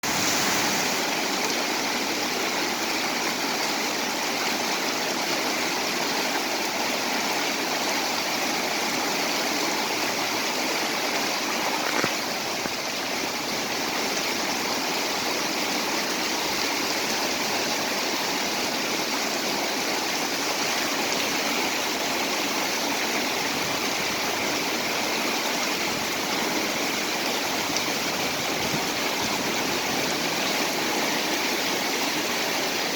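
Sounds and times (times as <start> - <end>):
heavy rain falling: 0.0 - 32.9.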